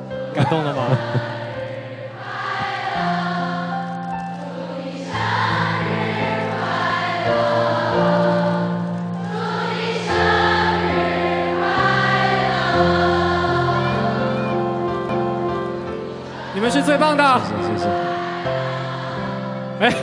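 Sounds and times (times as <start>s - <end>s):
backing music: 0.0s - 20.0s
audience singing together: 0.1s - 20.0s.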